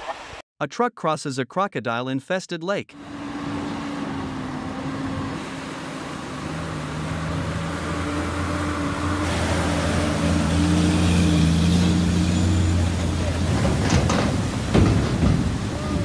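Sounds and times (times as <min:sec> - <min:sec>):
rushing splashing water: 0:03.0 - 0:16.0
truck diesel engine running: 0:03.0 - 0:16.0.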